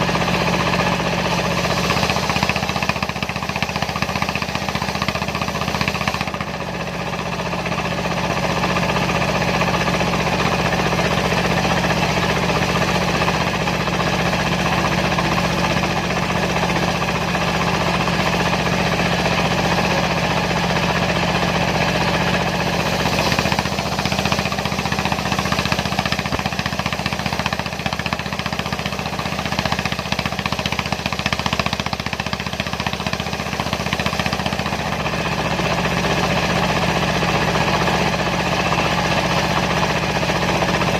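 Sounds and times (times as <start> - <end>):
circular saw: 0.0 - 40.9
diesel engine running: 0.0 - 40.9.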